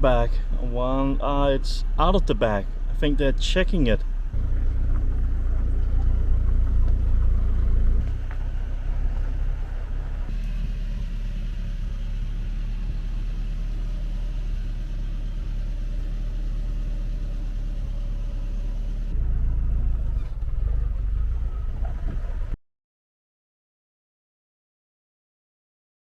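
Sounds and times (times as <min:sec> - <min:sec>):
car engine and road rumble: 0:00.0 - 0:22.6.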